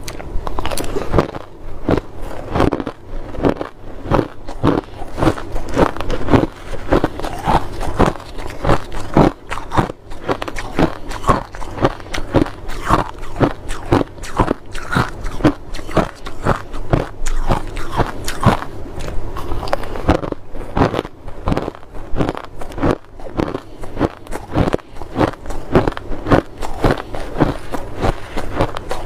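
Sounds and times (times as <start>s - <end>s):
chewing crunchy snow ice: 0.0s - 29.0s.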